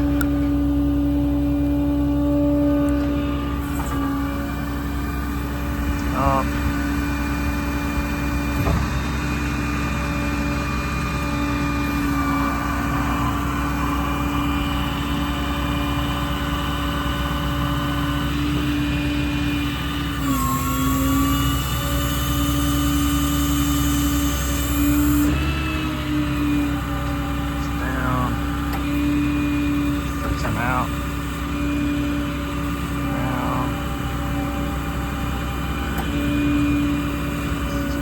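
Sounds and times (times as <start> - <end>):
constant whine: 0.0 - 38.0
diesel engine running: 0.0 - 38.0.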